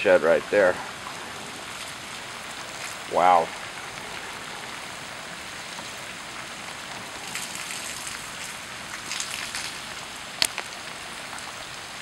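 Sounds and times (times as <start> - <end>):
rain falling: 0.0 - 12.0
water sheeting across street: 0.0 - 12.0.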